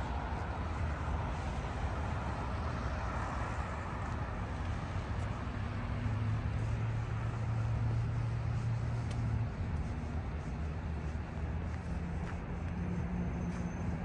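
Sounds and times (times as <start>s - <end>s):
city traffic hum: 0.0s - 14.0s.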